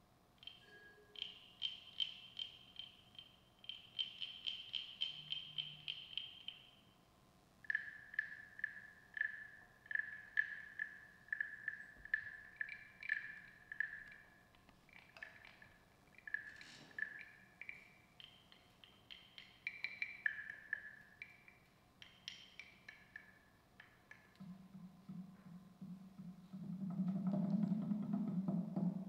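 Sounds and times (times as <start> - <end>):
plant percussion pinging: 0.4 - 6.8, 7.6 - 29.0.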